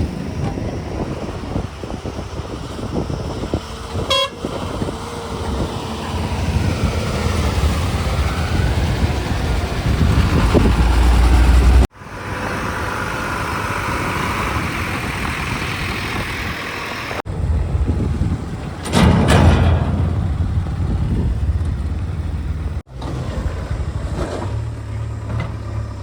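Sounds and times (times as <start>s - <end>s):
heavy diesel engine rumbling: 0.0s - 26.0s.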